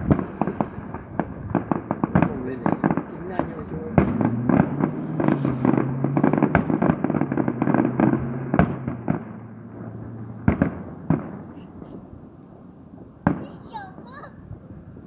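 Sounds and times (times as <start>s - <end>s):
fireworks crackling bangs: 0.0s - 15.0s
sharp firework bangs: 0.0s - 15.0s.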